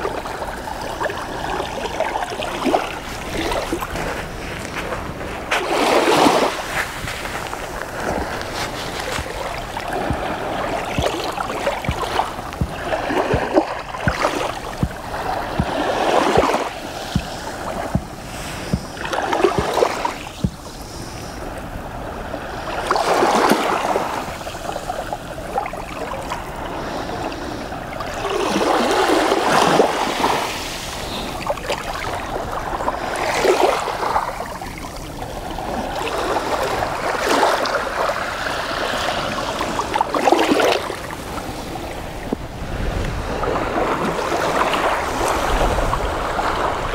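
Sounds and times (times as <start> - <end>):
waves washing over sand shore: 0.0 - 46.9.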